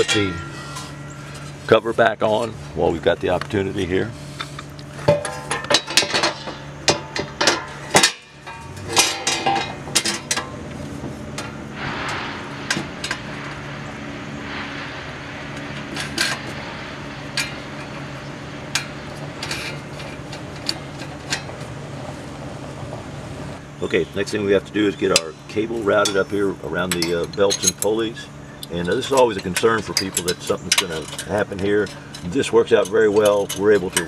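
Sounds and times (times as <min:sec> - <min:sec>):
metal cover clanking: 0:00.0 - 0:02.4, 0:04.4 - 0:22.0, 0:23.6 - 0:34.0.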